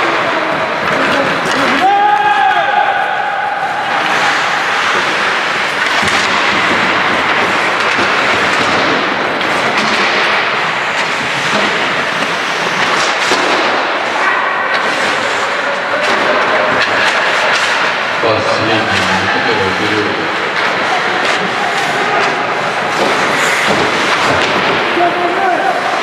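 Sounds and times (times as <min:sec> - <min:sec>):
hockey sticks and puck clacking: 0:00.0 - 0:26.0
skates scraping on ice: 0:00.0 - 0:26.0.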